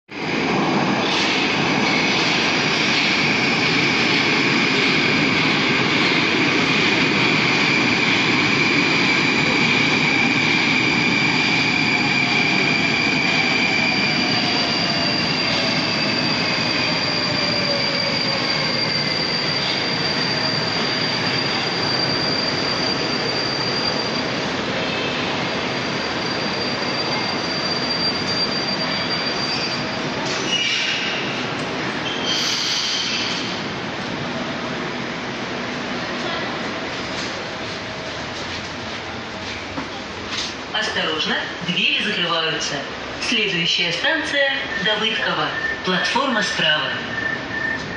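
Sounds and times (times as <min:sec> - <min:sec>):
metro train arriving: 0:00.1 - 0:47.9.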